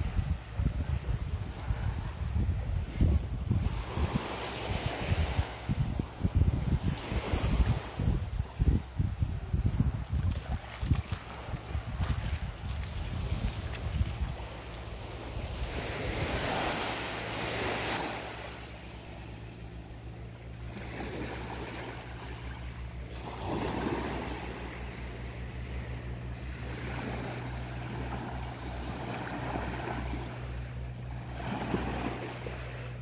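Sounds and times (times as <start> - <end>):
low steady hum: 0.0 - 33.0
small waves washing on beach: 0.0 - 33.0.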